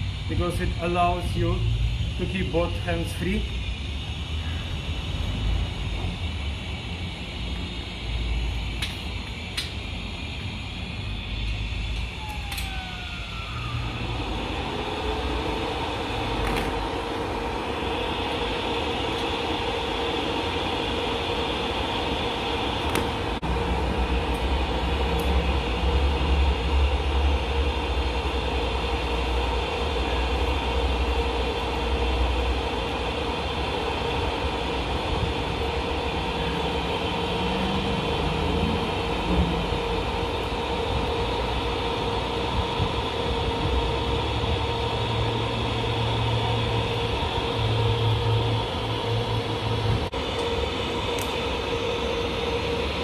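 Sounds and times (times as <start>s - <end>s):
welding arc hissing: 0.0s - 53.0s
welding machine hum: 0.0s - 53.0s.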